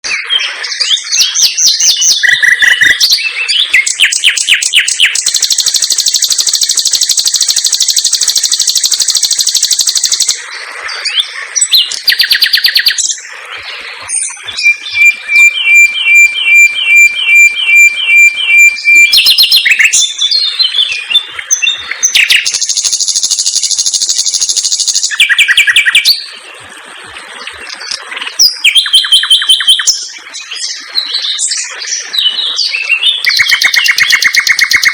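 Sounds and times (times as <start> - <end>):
nightingale singing: 0.0 - 13.3, 14.0 - 26.3, 28.4 - 34.9.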